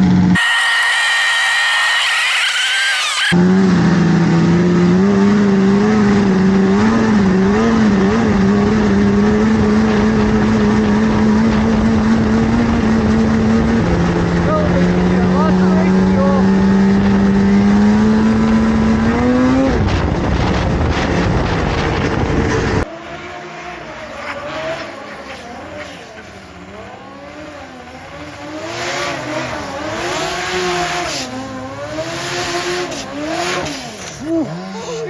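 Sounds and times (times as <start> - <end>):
snowmobile engines revving: 0.0 - 35.0.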